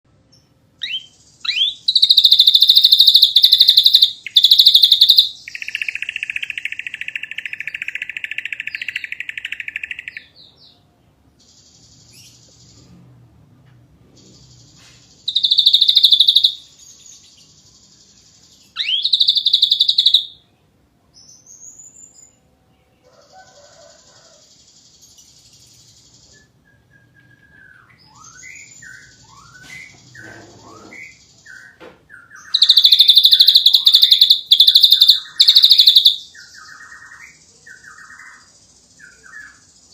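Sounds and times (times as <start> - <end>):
bird singing trills: 0.4 - 13.0, 14.2 - 20.6, 23.8 - 39.9.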